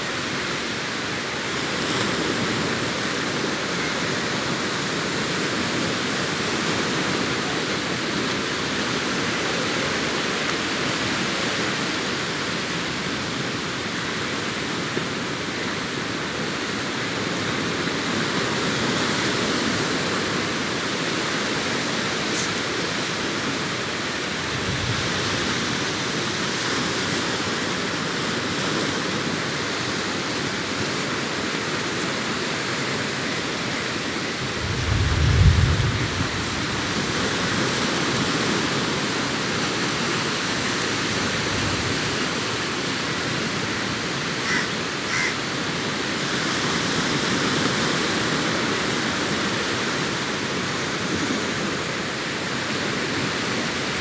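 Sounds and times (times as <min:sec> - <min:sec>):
low rumble of surf: 0:00.0 - 0:54.0
sea surf washing onto beach: 0:00.0 - 0:54.0.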